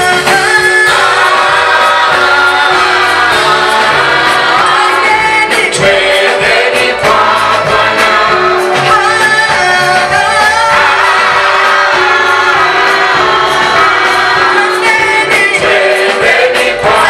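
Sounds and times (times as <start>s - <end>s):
choir singing gospel: 0.0s - 17.0s.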